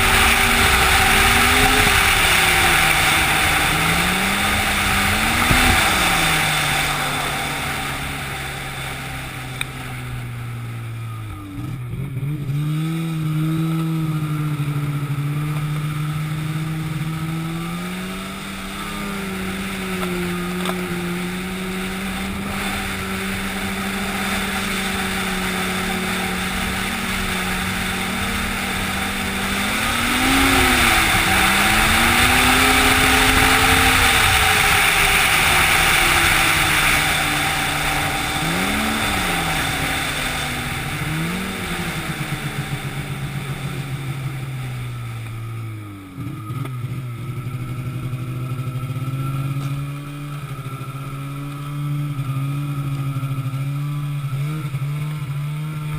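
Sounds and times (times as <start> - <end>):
engine changing speed: 0.0 - 55.9.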